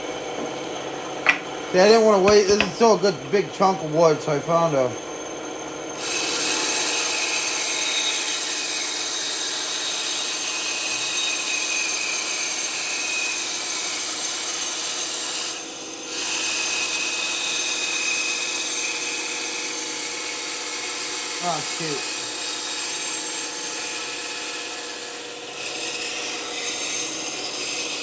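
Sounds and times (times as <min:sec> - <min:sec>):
band saw cutting wood: 0:00.0 - 0:28.0.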